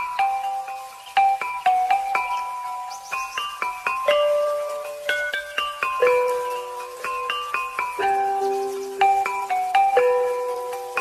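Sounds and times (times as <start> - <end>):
mallet percussion melody: 0.0 - 11.0.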